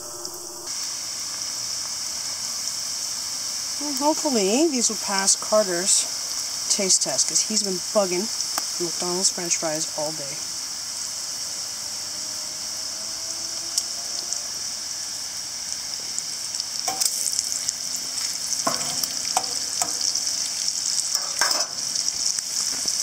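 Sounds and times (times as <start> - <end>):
bacon sizzling and crackling: 0.0 - 23.0
fries deep-frying in oil: 0.1 - 23.0.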